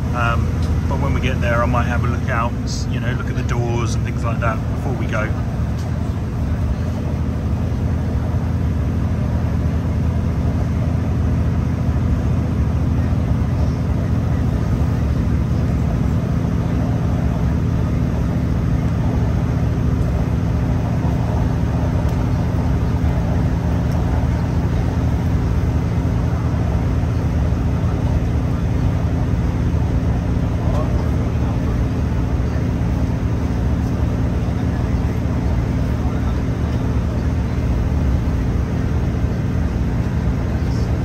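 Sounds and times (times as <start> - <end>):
train interior drone: 0.0 - 41.0.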